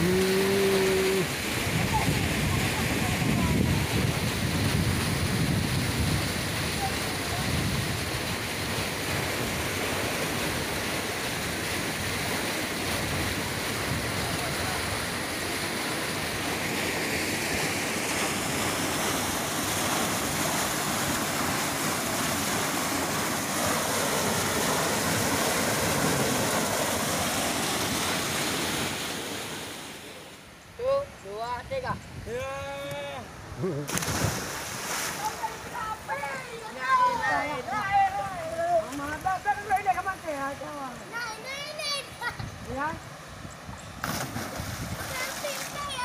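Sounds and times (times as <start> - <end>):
water rushing over a weir: 0.0 - 30.5, 33.5 - 43.0, 44.0 - 46.0.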